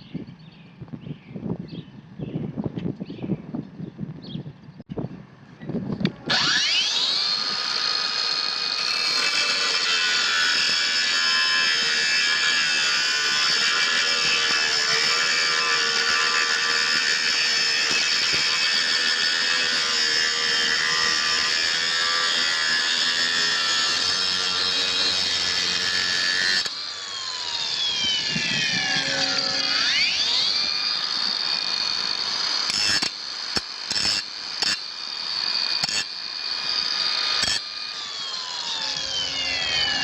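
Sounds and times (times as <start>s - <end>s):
angle grinder motor whining: 6.0s - 40.0s.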